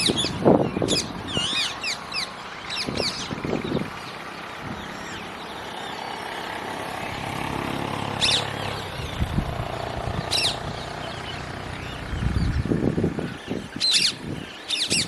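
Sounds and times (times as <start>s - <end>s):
sharp bird calls: 0.0s - 15.0s
vehicle engine humming: 0.0s - 15.0s.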